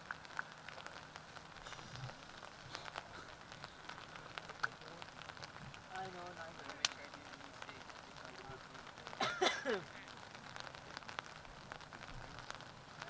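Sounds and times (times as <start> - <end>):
rain ticking on an umbrella: 0.0 - 13.0
soft faint hiss: 0.0 - 13.0.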